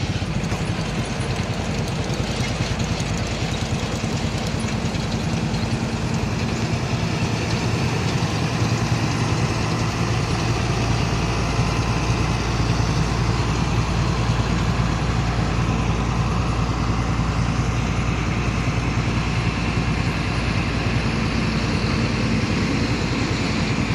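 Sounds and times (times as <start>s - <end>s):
road roller diesel engine running: 0.0s - 23.9s.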